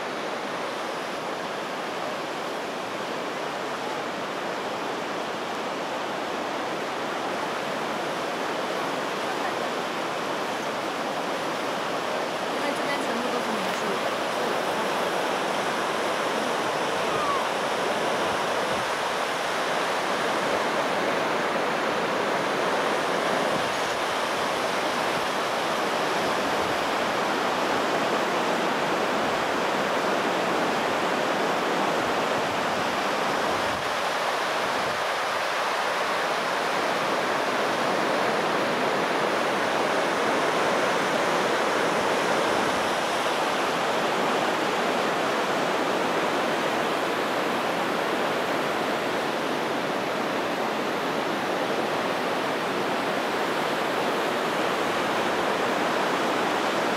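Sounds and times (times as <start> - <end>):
river rushing over rapids: 0.0 - 56.9.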